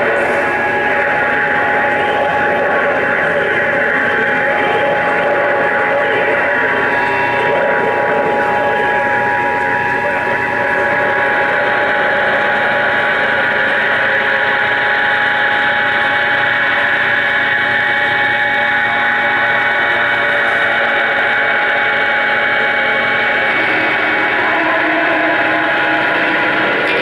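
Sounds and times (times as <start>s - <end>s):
live band playing drone: 0.0s - 27.0s.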